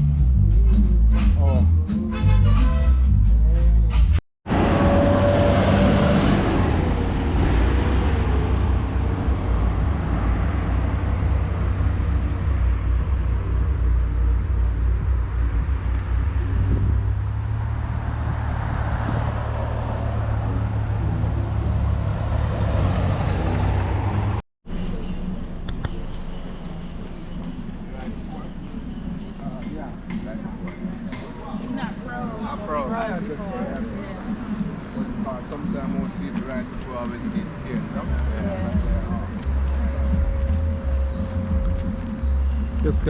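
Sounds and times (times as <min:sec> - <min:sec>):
vehicle engine and road rumble: 0:02.5 - 0:43.0.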